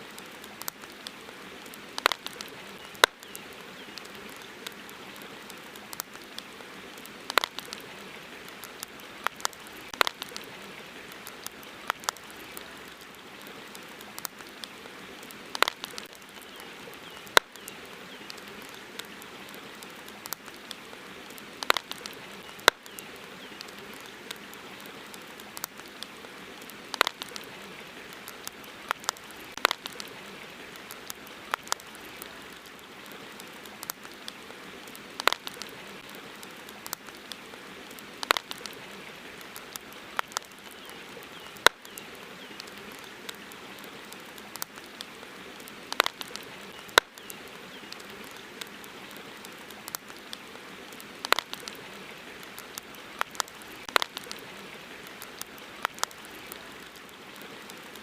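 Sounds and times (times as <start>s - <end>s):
campfire crackling and popping: 0.0s - 58.0s
flowing river water: 0.0s - 58.0s.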